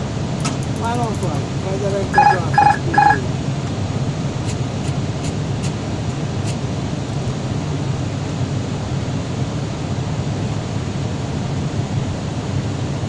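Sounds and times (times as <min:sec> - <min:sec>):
airliner engines and airflow: 0:00.0 - 0:13.0.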